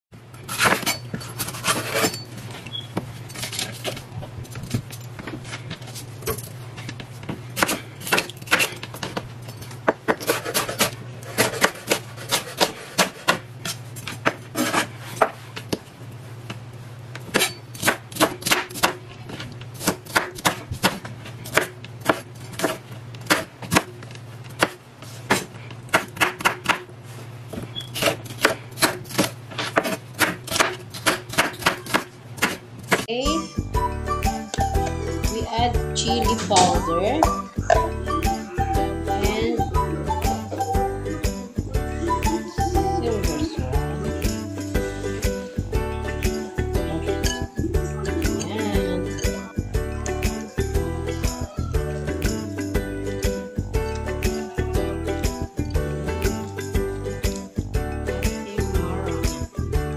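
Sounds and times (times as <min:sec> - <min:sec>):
low steady hum: 0:00.2 - 0:59.9.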